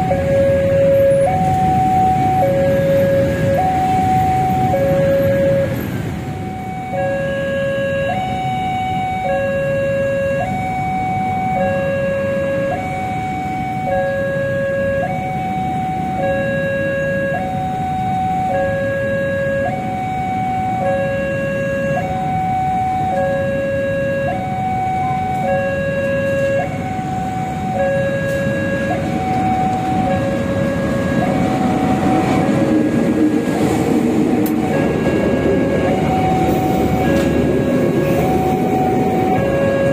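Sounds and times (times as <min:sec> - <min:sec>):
level crossing two-tone alarm: 0:00.0 - 0:32.5, 0:34.6 - 0:39.9
diesel locomotive: 0:00.0 - 0:39.9
traffic noise: 0:00.0 - 0:39.9.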